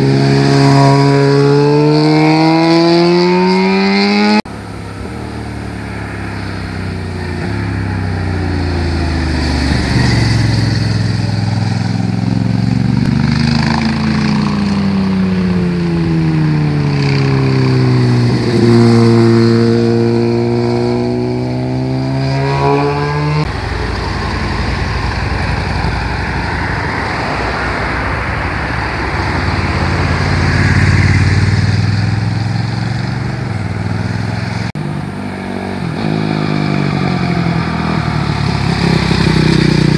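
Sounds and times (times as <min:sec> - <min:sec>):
motorcycle engines passing: 0:00.0 - 0:39.9
rough uneven engine noise: 0:04.5 - 0:39.9.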